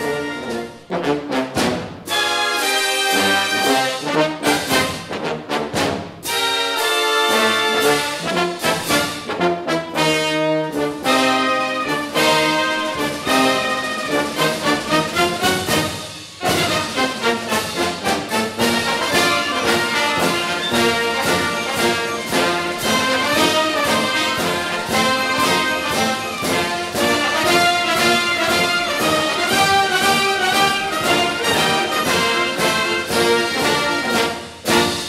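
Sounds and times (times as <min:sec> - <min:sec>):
orchestral music with brass: 0:00.0 - 0:35.0.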